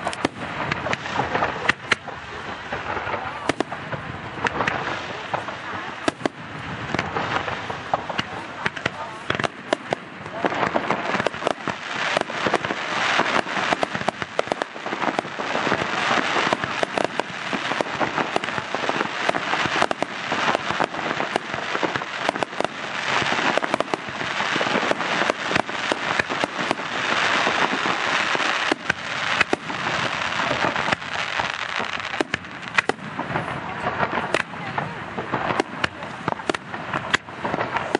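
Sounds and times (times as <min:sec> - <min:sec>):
fireworks bangs: 0:00.0 - 0:37.9
fireworks hiss: 0:00.0 - 0:37.9.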